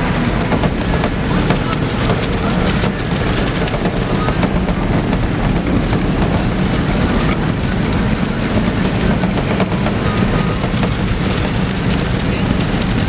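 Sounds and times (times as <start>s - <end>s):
rattles and knocks: 0.0s - 13.0s
vehicle engine and tyre noise: 0.0s - 13.0s.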